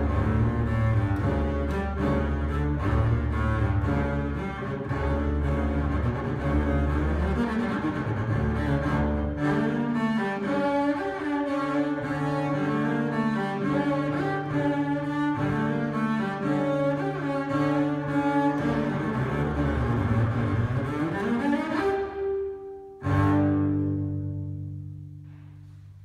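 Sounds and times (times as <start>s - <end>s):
bowed double bass: 0.0s - 26.0s.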